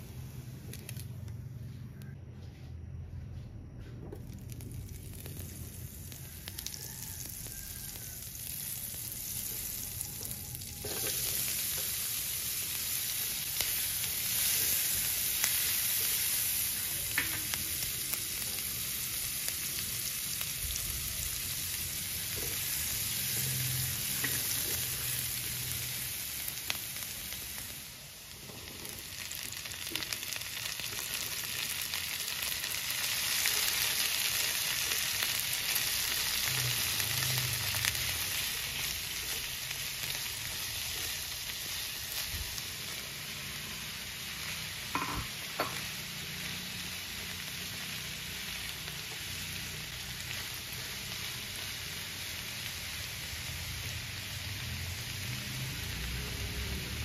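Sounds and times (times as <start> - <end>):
butter and onion sizzling in a pan: 4.2 - 57.0.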